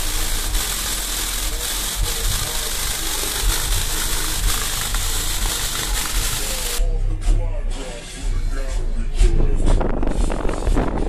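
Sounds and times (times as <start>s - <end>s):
subwoofer low bass tone: 0.0s - 11.0s.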